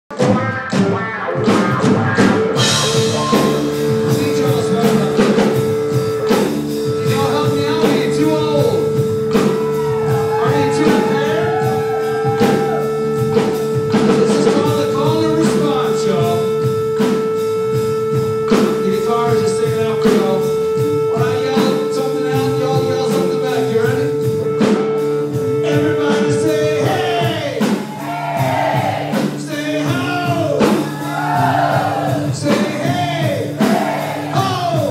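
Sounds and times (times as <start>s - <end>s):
drum kit: 0.1s - 34.9s
electric bass: 0.1s - 34.9s
electric guitar: 0.1s - 34.9s.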